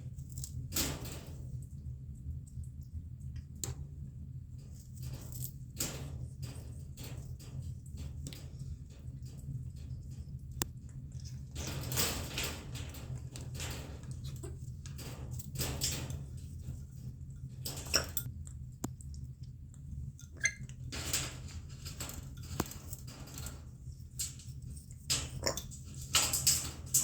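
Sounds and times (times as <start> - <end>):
steady low hum: 0.0 - 27.0
parrot feeding at food dish: 4.6 - 27.0.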